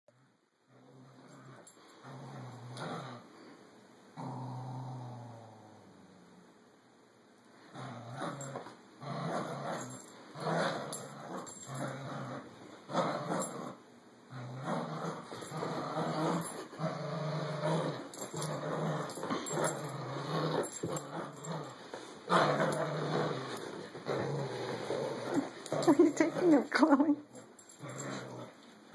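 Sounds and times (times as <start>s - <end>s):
dogs growling in play: 0.1s - 6.5s, 7.6s - 28.9s.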